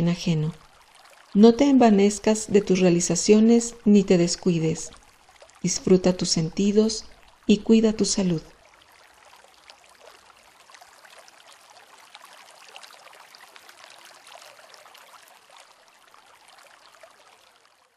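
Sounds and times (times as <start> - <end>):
tiny water drops: 0.0 - 17.9.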